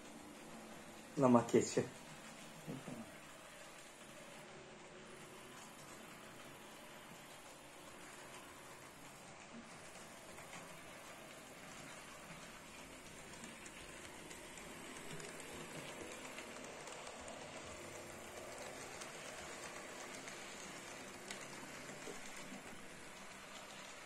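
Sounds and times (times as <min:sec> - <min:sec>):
model train wheels rattling on rails: 0:00.0 - 0:24.0.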